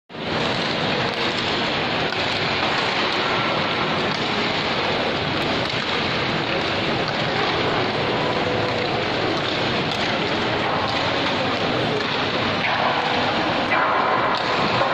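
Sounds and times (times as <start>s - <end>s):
crowd chatter: 0.1s - 14.9s
indoor hall noise: 0.1s - 14.9s.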